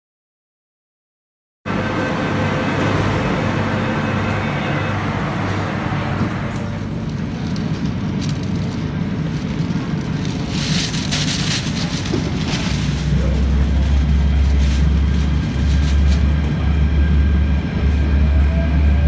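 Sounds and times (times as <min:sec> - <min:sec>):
train car running hum: 0:01.7 - 0:19.0.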